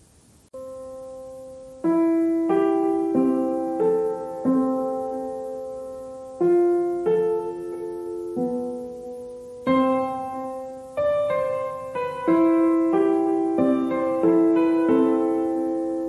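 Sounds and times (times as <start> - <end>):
slow gentle piano chords: 0.5 - 16.0.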